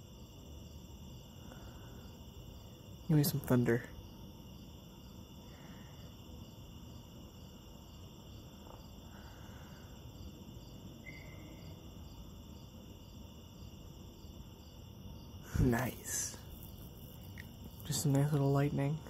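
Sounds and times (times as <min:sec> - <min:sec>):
night insects chirping: 0:00.0 - 0:19.0.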